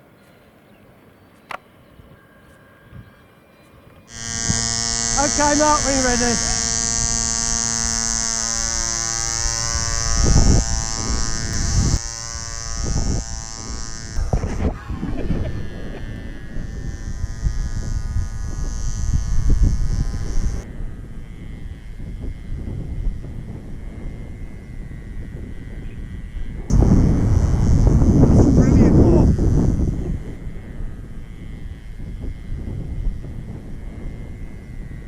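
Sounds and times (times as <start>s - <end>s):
model aero engine buzzing: 4.0s - 35.0s
wind buffeting microphone: 4.1s - 35.0s.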